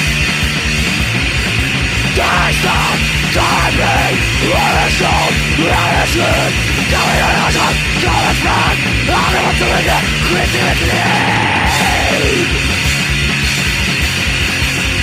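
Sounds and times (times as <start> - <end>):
distorted guitars: 0.0 - 15.0
fast pounding drums: 0.0 - 15.0.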